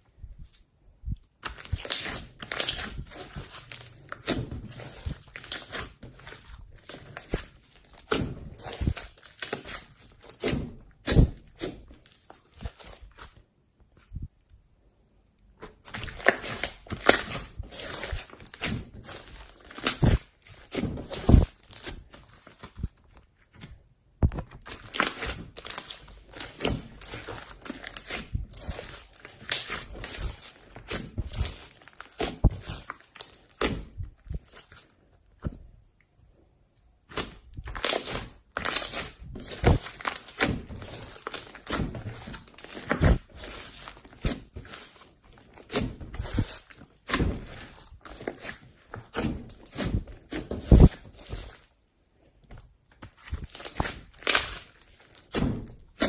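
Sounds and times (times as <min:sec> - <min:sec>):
slime crackling and popping: 0:01.3 - 0:13.4, 0:15.4 - 0:23.1, 0:24.3 - 0:34.9, 0:37.0 - 0:51.8, 0:52.8 - 0:56.0.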